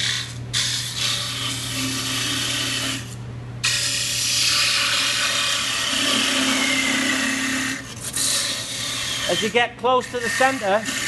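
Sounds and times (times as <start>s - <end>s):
lathe motor hum: 0.0s - 3.1s, 3.7s - 11.0s.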